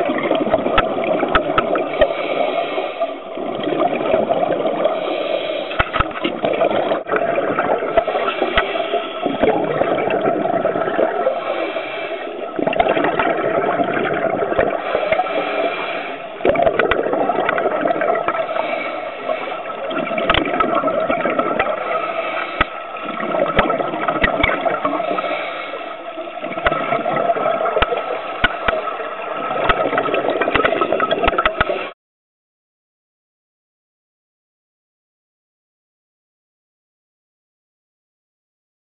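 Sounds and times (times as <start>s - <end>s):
underwater bubbles and regulator breathing: 0.0s - 32.0s.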